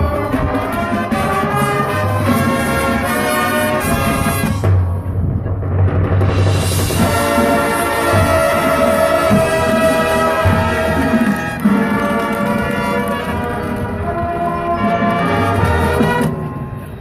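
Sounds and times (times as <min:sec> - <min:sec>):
marching band brass chords: 0:00.0 - 0:16.9
percussion: 0:00.0 - 0:17.0.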